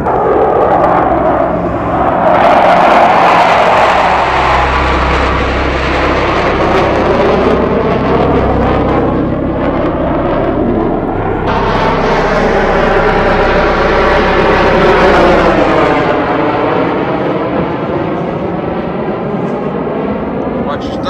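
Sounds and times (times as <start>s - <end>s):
jets roaring overhead: 0.0s - 21.0s.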